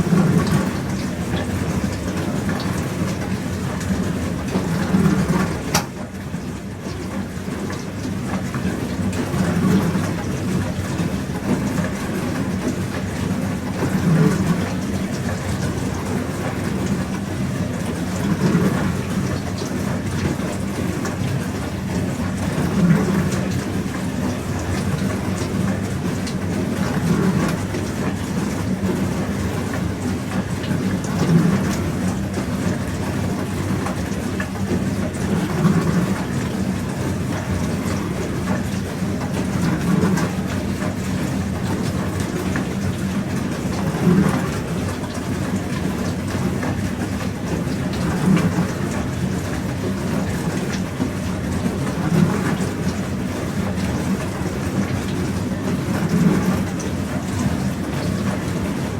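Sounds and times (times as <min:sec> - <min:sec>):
dishwasher pump hum: 0:00.0 - 0:58.9
water spraying inside dishwasher: 0:00.0 - 0:58.9.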